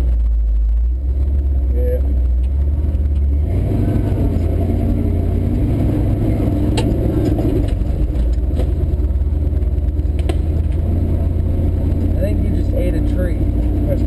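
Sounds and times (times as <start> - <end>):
pickup engine running: 0.0 - 14.0.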